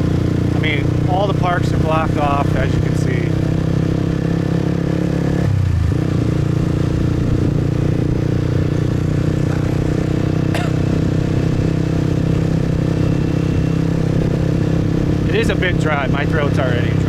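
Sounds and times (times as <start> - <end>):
motorbike engine running: 0.0 - 17.0.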